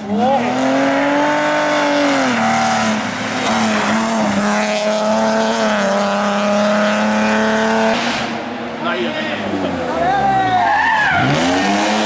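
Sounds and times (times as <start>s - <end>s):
car engine at high revs: 0.0s - 10.0s, 11.1s - 12.0s.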